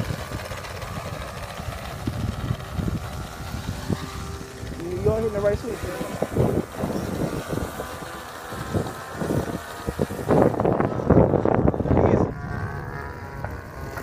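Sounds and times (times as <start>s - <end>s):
distant model airplane engine drone: 0.0s - 14.0s
wind buffeting microphone: 0.0s - 14.0s.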